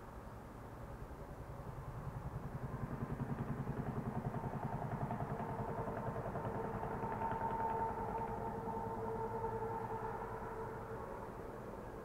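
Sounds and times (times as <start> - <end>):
vehicle engine throbbing: 1.4 - 12.0.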